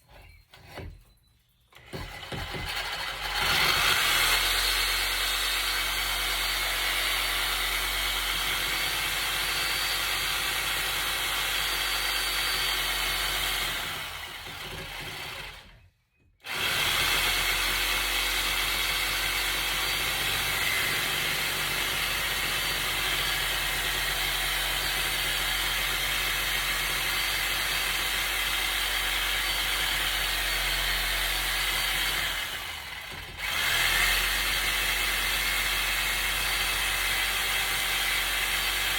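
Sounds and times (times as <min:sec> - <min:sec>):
power tool whining: 0:01.7 - 0:15.8, 0:16.4 - 0:38.9.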